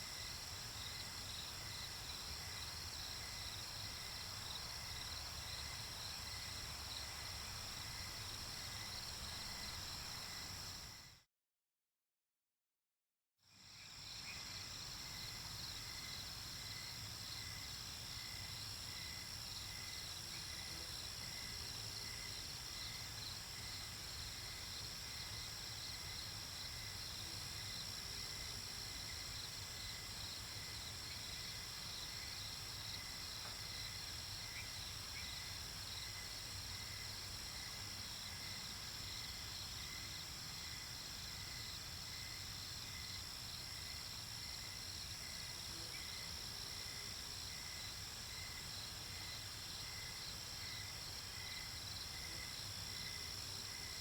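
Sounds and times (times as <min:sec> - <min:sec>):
crickets and insects chirping: 0:00.0 - 0:11.2, 0:13.5 - 0:54.0.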